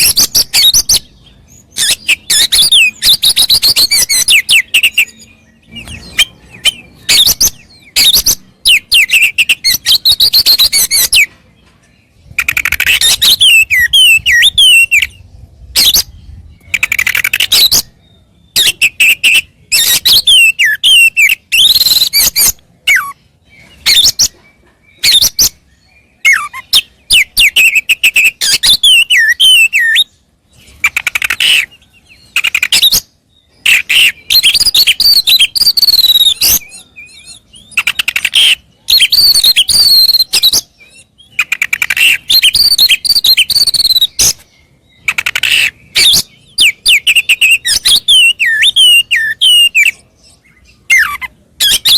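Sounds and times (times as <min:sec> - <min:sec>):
bird singing whistles and chatter: 0:00.0 - 0:51.9.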